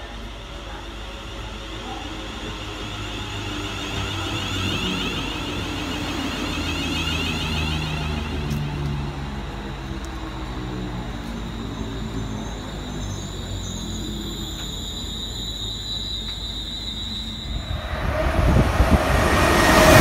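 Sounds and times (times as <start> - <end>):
train high whine: 0.0 - 20.0
train wheels rumbling: 0.0 - 20.0.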